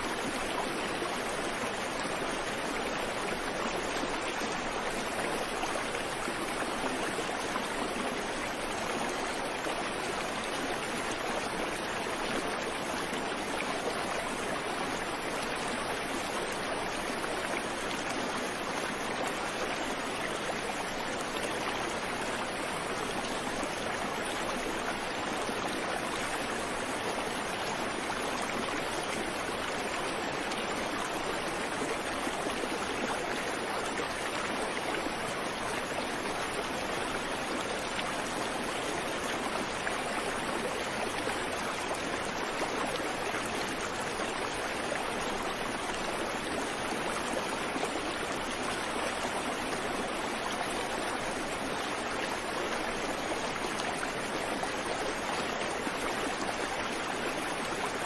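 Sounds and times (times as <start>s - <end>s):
creek flowing over stones: 0.0s - 58.0s.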